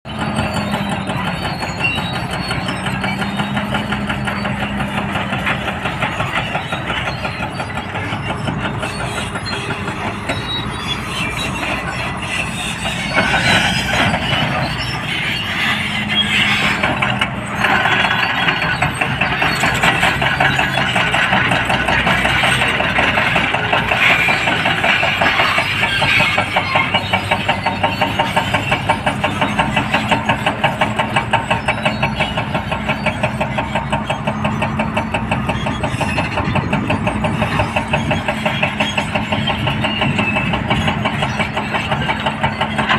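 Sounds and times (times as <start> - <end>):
heavy diesel engines under load: 0.0 - 42.9.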